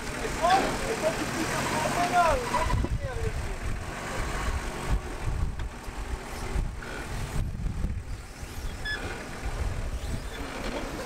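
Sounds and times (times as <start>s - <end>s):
off-road engine rumbling: 0.0s - 11.0s.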